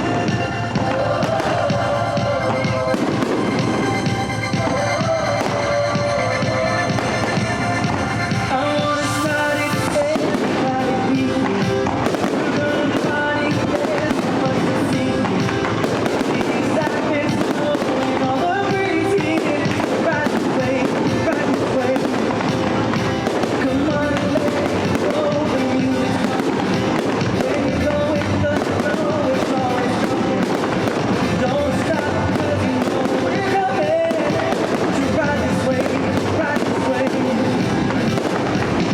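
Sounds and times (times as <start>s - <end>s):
fireworks banging: 0.0s - 38.9s
loud music: 0.0s - 38.9s.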